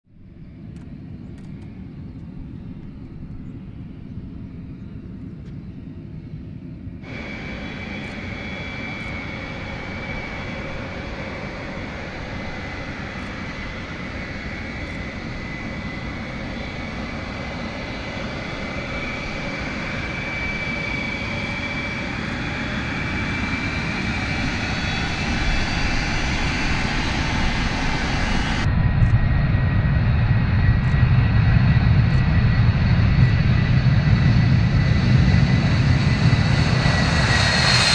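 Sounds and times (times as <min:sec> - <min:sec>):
jet engine high whine: 0:00.1 - 0:37.9
jet engines rumbling: 0:00.1 - 0:37.9.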